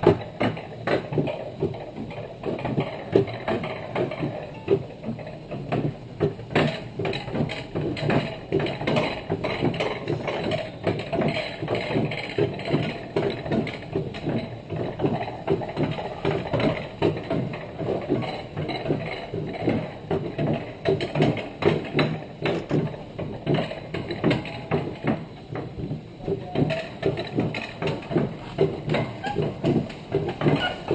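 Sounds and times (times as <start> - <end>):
sled wheels clattering on rail: 0.0 - 30.9.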